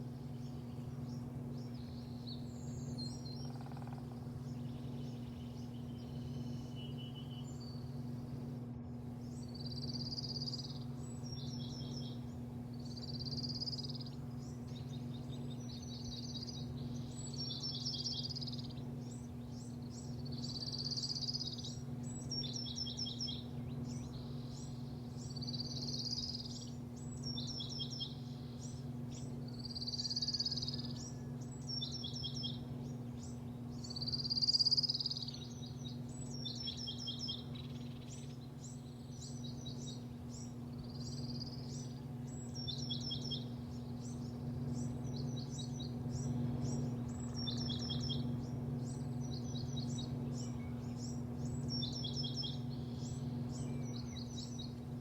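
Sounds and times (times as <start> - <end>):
low machine hum: 0.0 - 55.0
songbird singing: 0.0 - 55.0.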